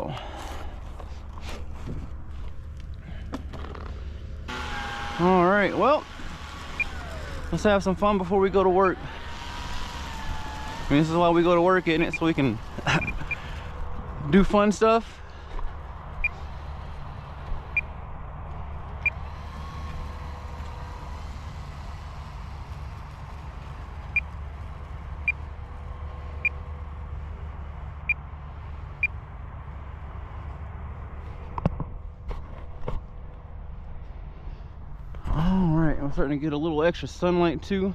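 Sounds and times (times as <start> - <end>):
low outdoor rumble: 0.0 - 37.9.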